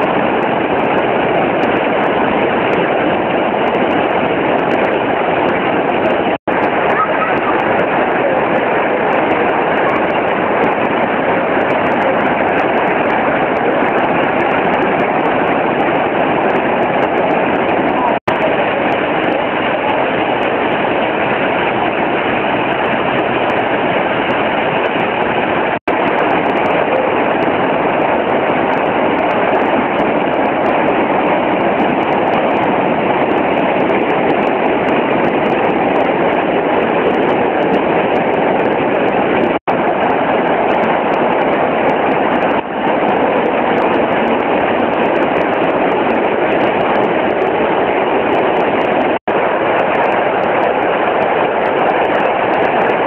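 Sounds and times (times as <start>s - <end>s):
river water rushing: 0.0s - 53.0s
waterfall: 0.0s - 53.0s.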